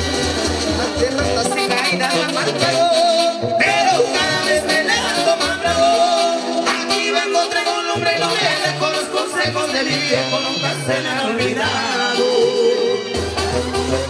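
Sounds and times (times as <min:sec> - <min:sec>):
latin dance music with singing: 0:00.0 - 0:14.0.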